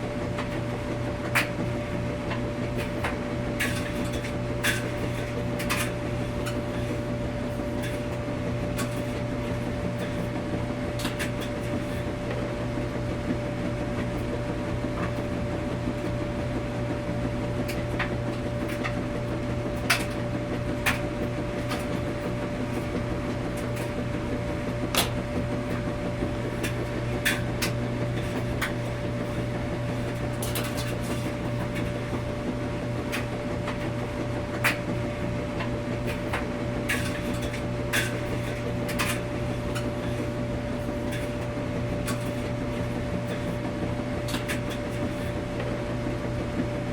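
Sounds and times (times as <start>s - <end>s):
washing machine humming: 0.0s - 46.9s.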